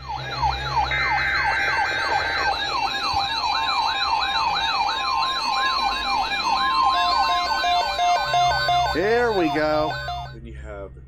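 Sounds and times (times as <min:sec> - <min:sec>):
electronic siren yelping: 0:00.0 - 0:10.4
steady high tone: 0:00.0 - 0:10.7.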